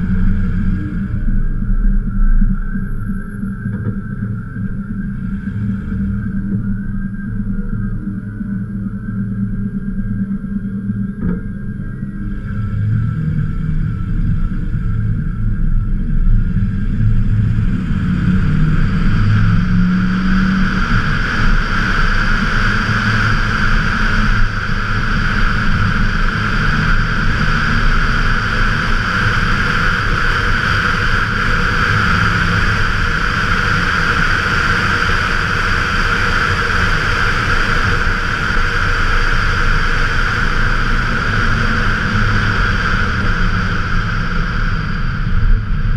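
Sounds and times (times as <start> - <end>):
wind rushing on camera: 0.0 - 45.9.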